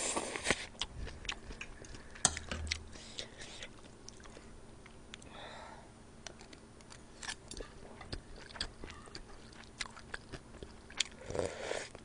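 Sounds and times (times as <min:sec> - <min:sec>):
person chewing food: 0:00.0 - 0:05.3, 0:06.2 - 0:12.0.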